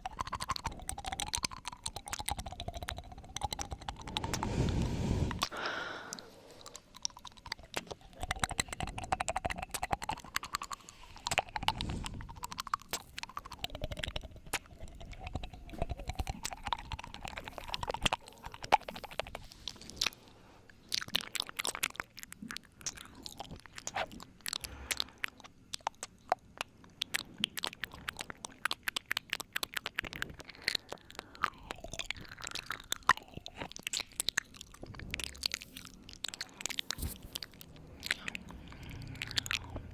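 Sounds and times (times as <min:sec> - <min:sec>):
tongue clicks: 0:00.0 - 0:39.9
wet lip smacks: 0:00.0 - 0:39.9.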